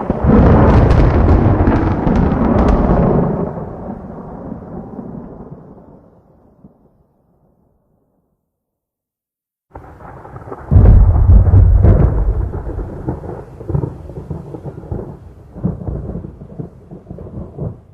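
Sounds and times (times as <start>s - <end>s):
thunder crack: 0.0s - 6.9s, 9.7s - 17.9s
thunder rumbling: 0.0s - 7.4s, 9.7s - 17.9s.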